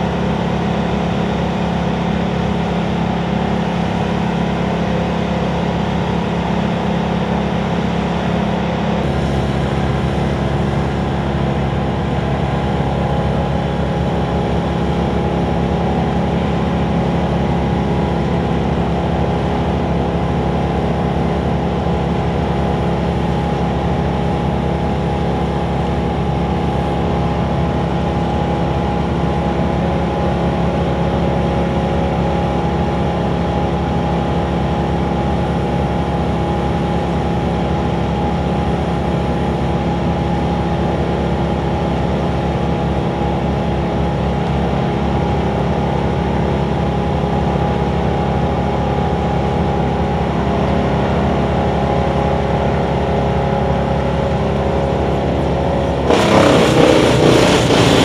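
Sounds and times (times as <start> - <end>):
skid steer engine running: 0.0 - 58.0.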